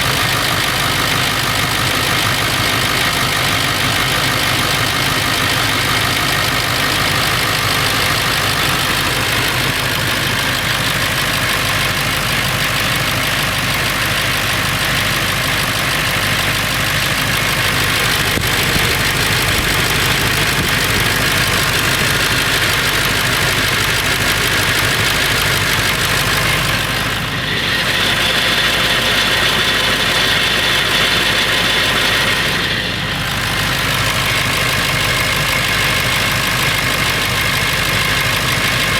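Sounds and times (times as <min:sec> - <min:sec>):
diesel engine idling: 0:00.0 - 0:38.9
engine rattle: 0:00.0 - 0:38.9.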